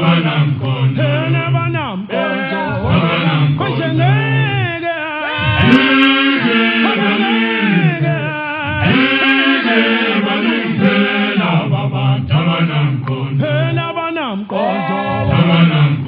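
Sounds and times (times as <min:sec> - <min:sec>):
male a cappella choir singing: 0:00.0 - 0:16.0.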